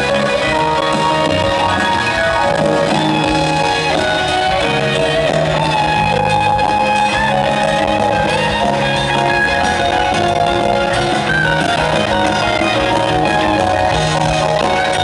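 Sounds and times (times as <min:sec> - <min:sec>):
electric guitar leading: 0:00.0 - 0:15.0
rock band playing: 0:00.0 - 0:15.0.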